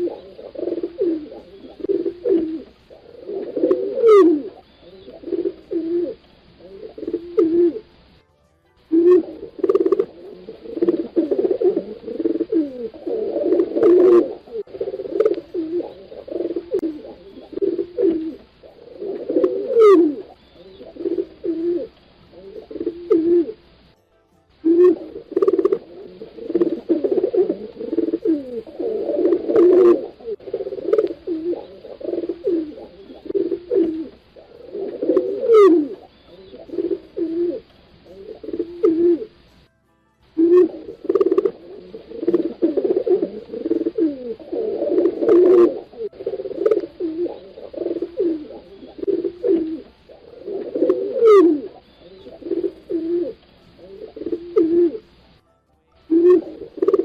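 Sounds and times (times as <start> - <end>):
pigeons cooing: 0.0 - 8.1, 8.9 - 23.8, 24.6 - 39.7, 40.4 - 55.3, 56.1 - 57.0.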